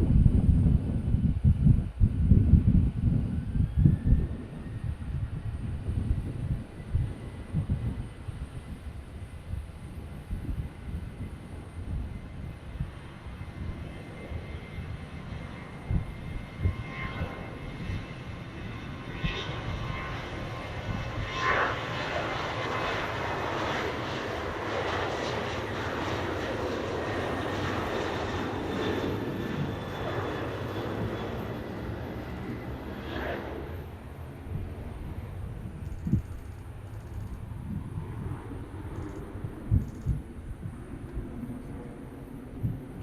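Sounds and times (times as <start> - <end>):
jet airliner taking off: 0.0 - 43.0.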